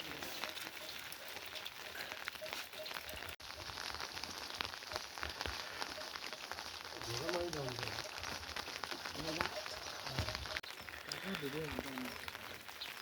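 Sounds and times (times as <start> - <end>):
rain drops ticking on surfaces: 0.0 - 13.0.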